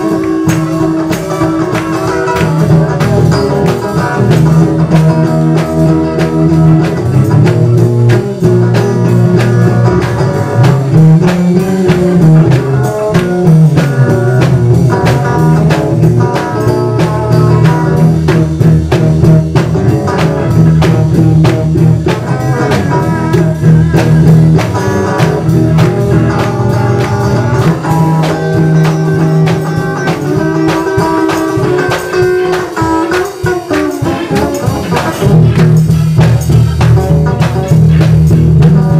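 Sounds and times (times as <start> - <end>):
drum kit beat: 0.0 - 38.9
guitar playing: 0.0 - 38.9.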